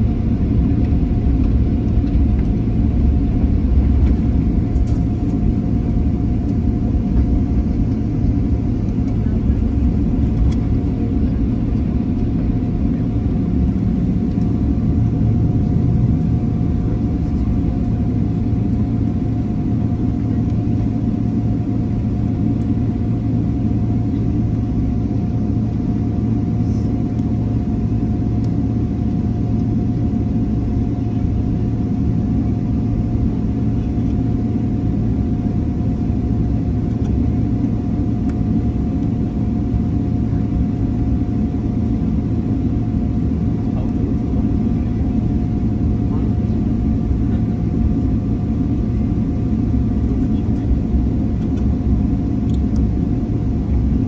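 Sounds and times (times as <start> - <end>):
faint constant hum: 0.0 - 54.0
jet engines rumbling: 0.0 - 54.0.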